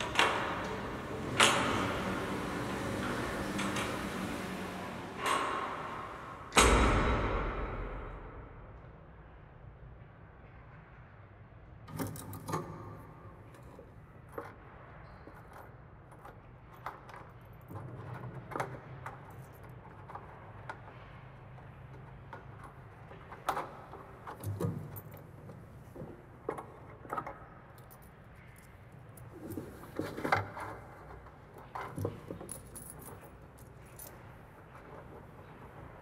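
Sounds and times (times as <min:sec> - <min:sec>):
objects clicking and knocking: 0:00.0 - 0:06.8, 0:11.9 - 0:36.0.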